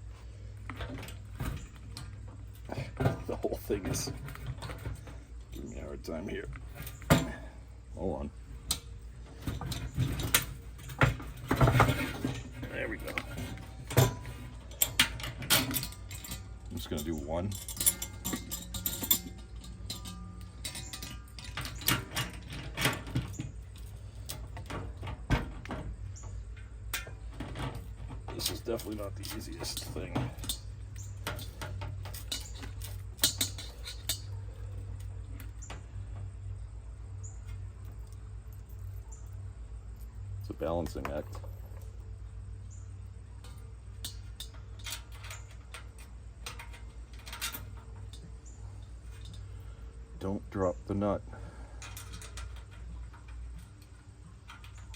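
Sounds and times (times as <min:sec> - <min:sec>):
steady low hum: 0:00.0 - 0:54.9
small metal clicks and knocks: 0:00.6 - 0:54.9.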